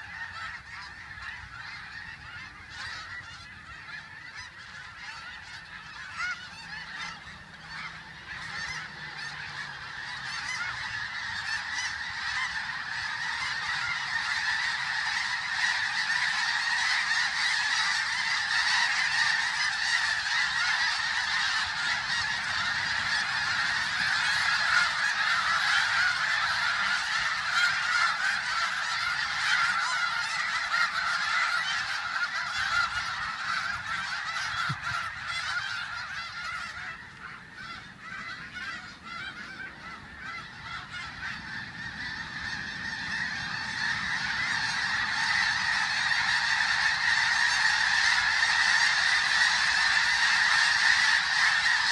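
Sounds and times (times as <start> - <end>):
flock of geese honking: 0.0 - 51.9.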